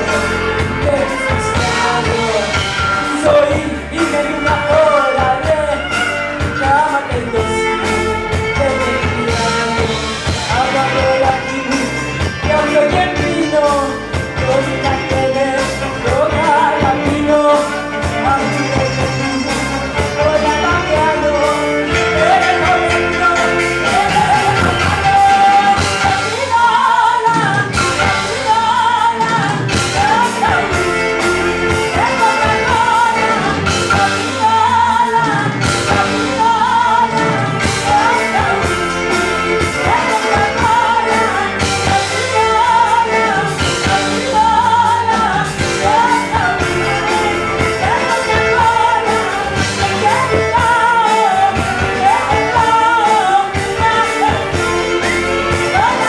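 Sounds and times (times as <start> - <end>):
live band music: 0.0 - 56.0
violin: 0.0 - 56.0
woman singing into microphone: 0.0 - 56.0.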